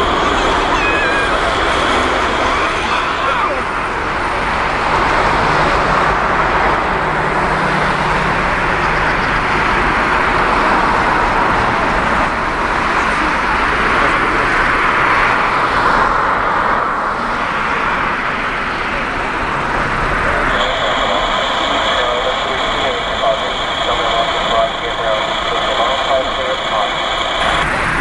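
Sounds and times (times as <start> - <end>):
jet engines running: 0.0 - 28.0.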